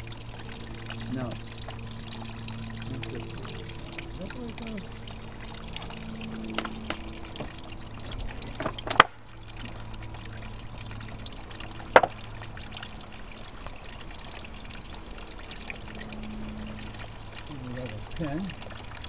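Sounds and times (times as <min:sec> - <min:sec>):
juice trickling: 0:00.0 - 0:19.0.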